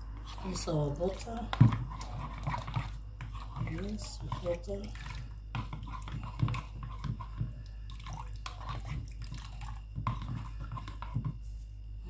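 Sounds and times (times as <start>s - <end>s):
stirring in plastic bowl: 0.0s - 11.6s
steady low hum: 0.0s - 12.0s.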